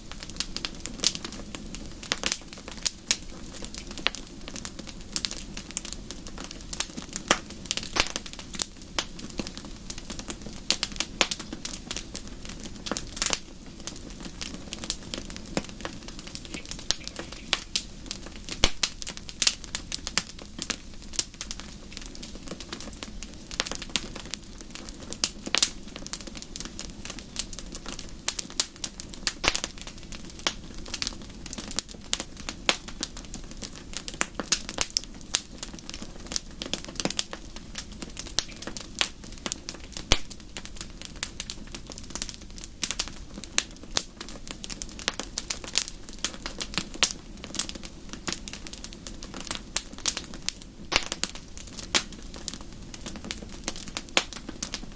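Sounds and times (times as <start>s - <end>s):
low hiss of flames: 0.0s - 54.9s
wood fire crackling and popping: 0.0s - 54.9s.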